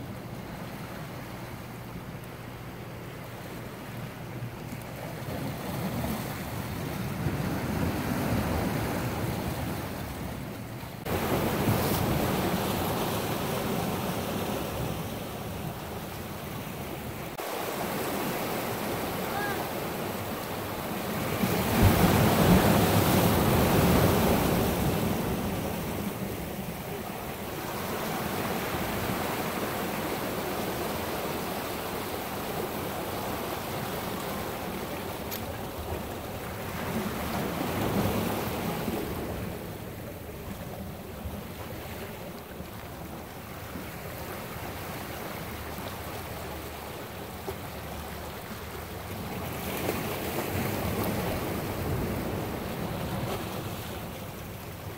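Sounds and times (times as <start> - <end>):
sea waves breaking on rocks: 3.2 - 54.9.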